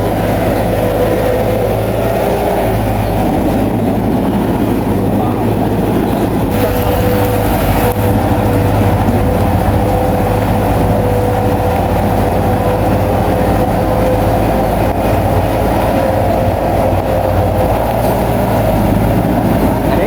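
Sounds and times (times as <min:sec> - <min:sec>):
bulldozer diesel engine: 0:00.0 - 0:20.0
steady mechanical whine: 0:00.0 - 0:20.0.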